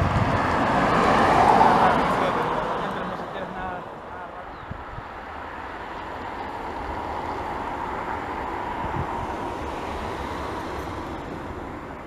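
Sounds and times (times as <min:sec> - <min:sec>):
distant jet engines taxiing: 0:00.0 - 0:12.0.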